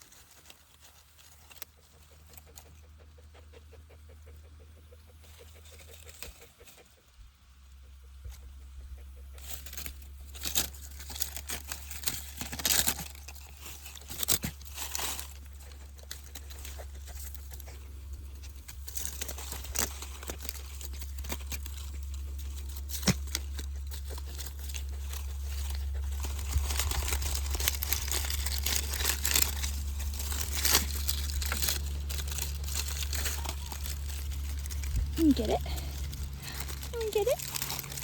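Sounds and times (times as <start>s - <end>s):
dry leaves crackling: 0.0s - 3.0s, 7.8s - 38.0s
steady low hum: 7.4s - 38.0s.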